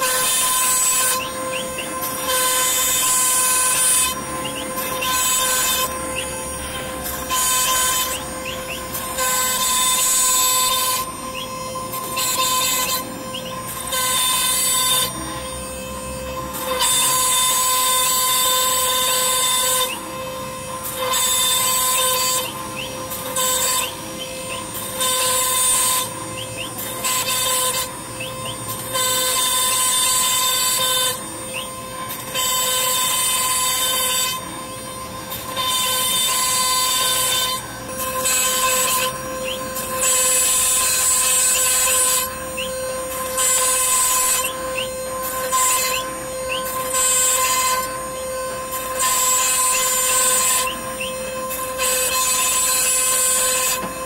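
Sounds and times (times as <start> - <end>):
hissing cutting noise: 0.0 - 54.0
router spindle whining: 0.0 - 54.0.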